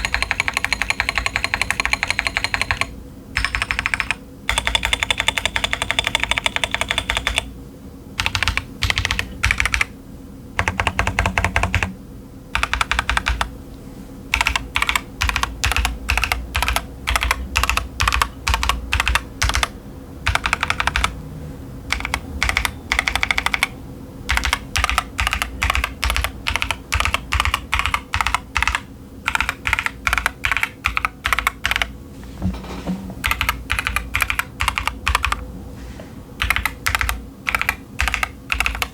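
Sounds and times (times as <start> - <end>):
typing on mechanical keyboard: 0.0 - 7.5, 8.2 - 9.9, 10.6 - 11.9, 12.6 - 13.5, 14.3 - 21.2, 21.9 - 31.9, 33.2 - 35.4, 36.4 - 38.9.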